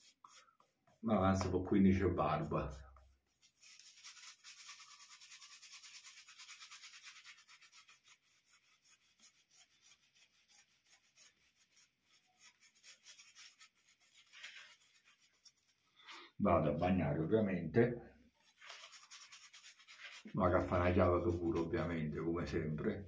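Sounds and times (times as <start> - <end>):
shaving brush scrubbing soap: 0.0 - 16.4, 18.4 - 23.0.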